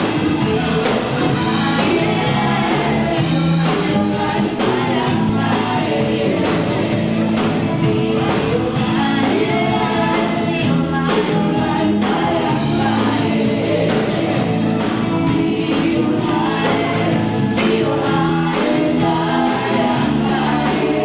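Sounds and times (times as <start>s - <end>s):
drum kit beat: 0.0s - 21.0s
women singing: 0.0s - 21.0s.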